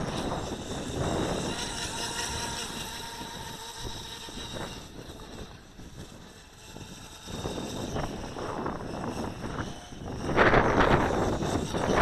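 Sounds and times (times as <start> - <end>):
electric motor high whine: 0.0 - 12.0
wind gusts on microphone: 0.0 - 12.0.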